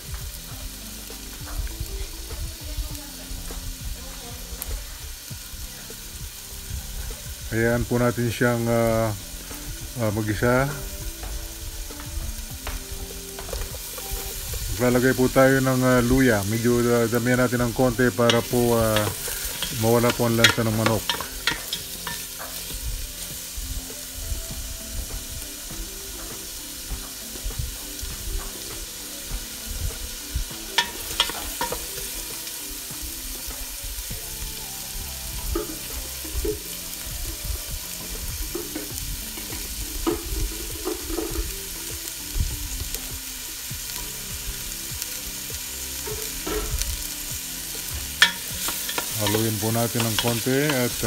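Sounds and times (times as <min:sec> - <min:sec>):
onions sizzling in a pot: 0:00.0 - 0:51.0.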